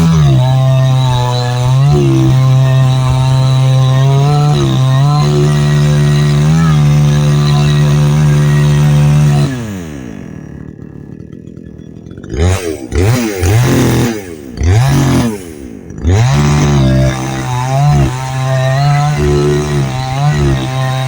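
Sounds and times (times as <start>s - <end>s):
chainsaw idling and revving: 0.0s - 21.0s.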